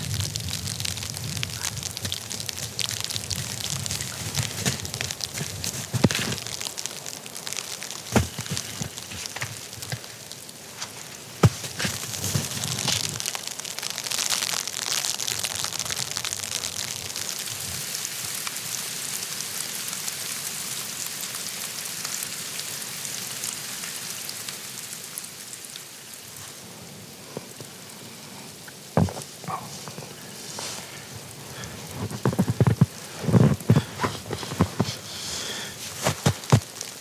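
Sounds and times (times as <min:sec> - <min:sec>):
rain pattering on a surface: 0:00.0 - 0:37.0.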